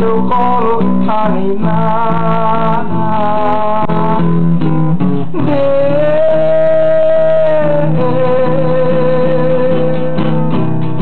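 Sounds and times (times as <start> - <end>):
man singing wordless note: 0.0 - 4.5, 5.3 - 10.3
acoustic guitar strumming: 0.0 - 11.0.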